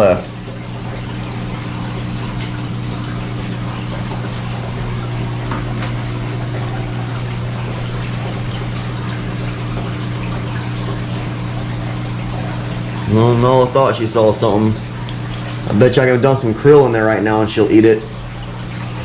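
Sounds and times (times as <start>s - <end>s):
pump hum: 0.0s - 19.0s
trickling splashing water: 0.0s - 19.0s.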